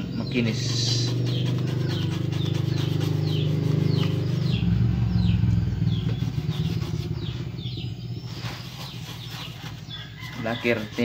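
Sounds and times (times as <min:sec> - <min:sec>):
small engine idling: 0:00.0 - 0:10.9
small birds chirping: 0:00.0 - 0:11.0.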